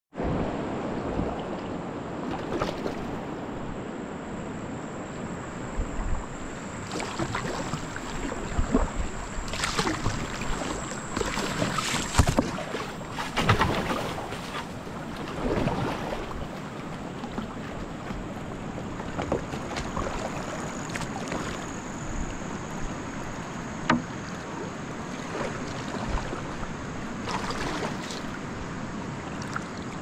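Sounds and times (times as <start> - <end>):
river water running: 0.2 - 30.0
paddle strokes splashing: 1.0 - 30.0.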